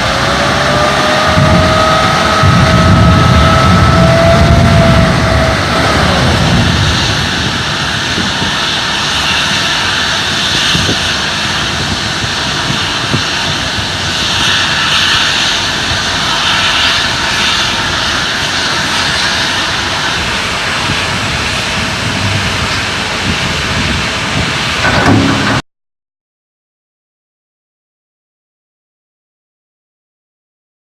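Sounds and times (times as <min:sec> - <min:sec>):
truck engine noise: 0:00.0 - 0:25.6.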